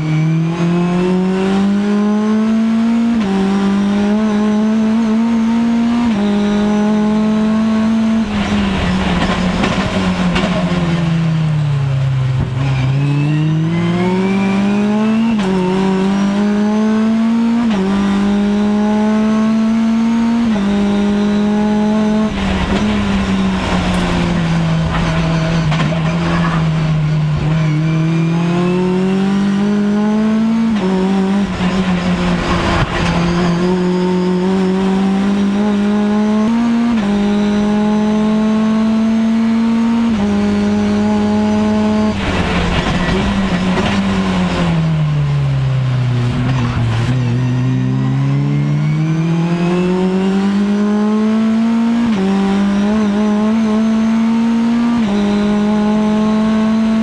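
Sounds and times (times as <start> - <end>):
race car engine: 0.0 - 57.0.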